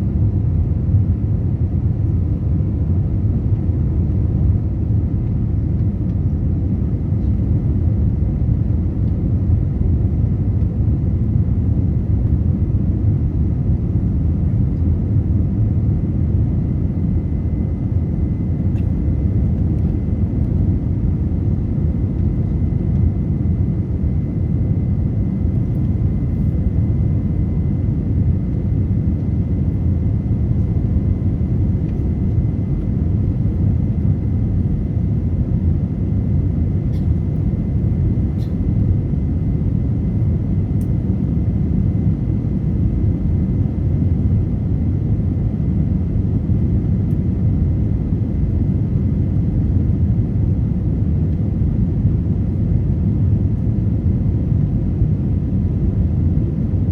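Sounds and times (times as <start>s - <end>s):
airliner rumble: 0.0s - 56.9s
faint steady whine: 7.2s - 56.9s.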